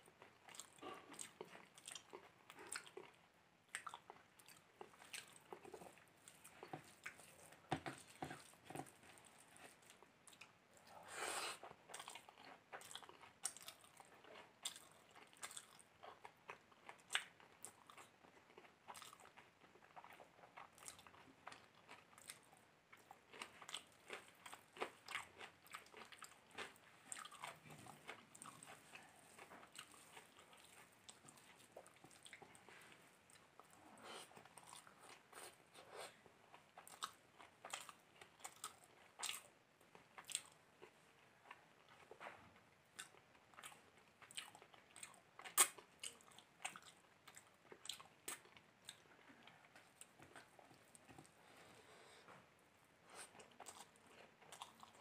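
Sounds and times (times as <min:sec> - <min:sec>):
chewing and lip smacking: 0:00.2 - 0:11.0, 0:11.6 - 0:51.4, 0:53.1 - 0:55.0.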